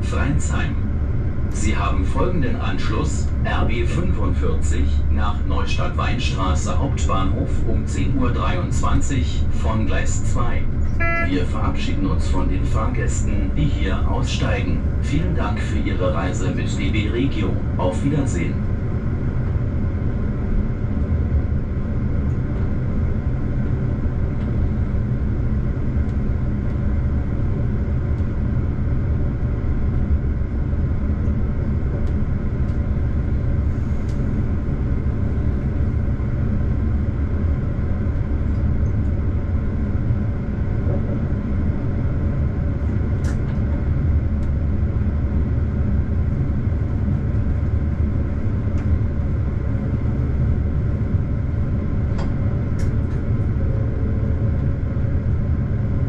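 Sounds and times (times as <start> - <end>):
diesel train engine rumble: 0.0 - 56.0.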